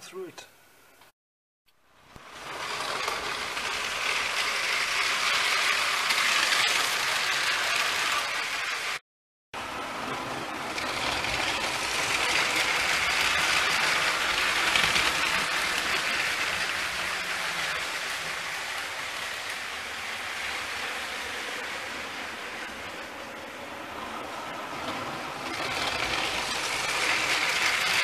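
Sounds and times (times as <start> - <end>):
toy train whirring on track: 2.0 - 9.0, 9.6 - 28.0.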